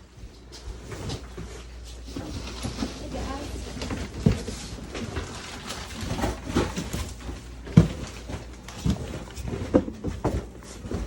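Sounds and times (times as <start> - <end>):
rustling garbage: 0.5 - 11.0.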